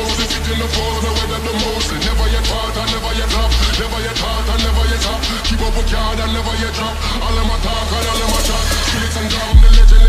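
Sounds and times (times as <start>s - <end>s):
bass-heavy hip-hop music: 0.0s - 10.0s.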